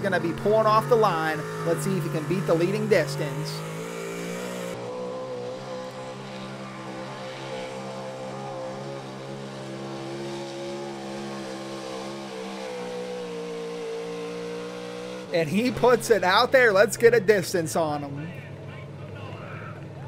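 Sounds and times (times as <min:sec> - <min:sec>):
truck engine at high revs: 0:00.0 - 0:20.0.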